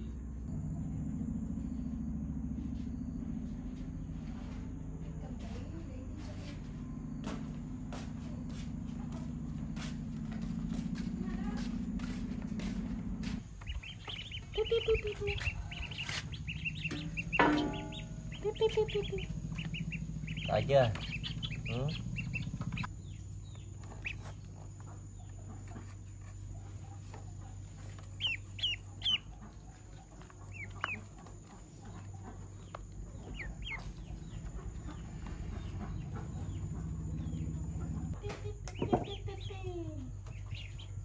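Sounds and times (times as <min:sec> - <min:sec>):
steady low hum: 0:00.0 - 0:41.0
ducklings peeping: 0:02.6 - 0:41.0.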